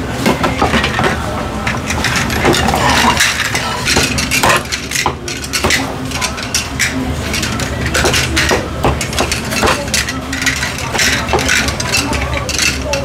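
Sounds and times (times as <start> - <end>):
kitchen clatter: 0.2 - 13.0.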